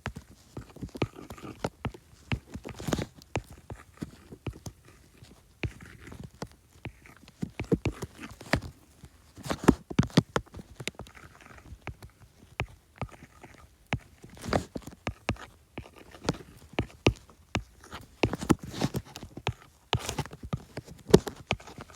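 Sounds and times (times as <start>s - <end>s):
faint stylus scratching: 0.0s - 21.9s.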